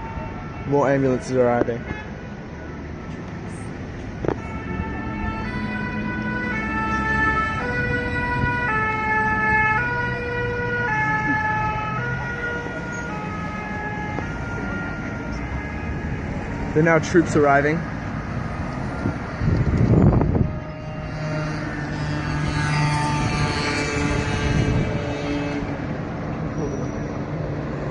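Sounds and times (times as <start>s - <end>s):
ambulance two-tone siren: 0.0s - 2.1s, 3.0s - 26.0s
traffic noise: 0.0s - 27.9s.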